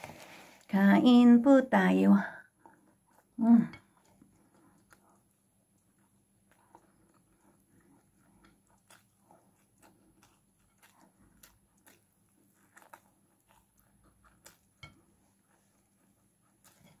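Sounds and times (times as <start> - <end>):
person chewing with wet mouth clicks: 2.9 - 17.0.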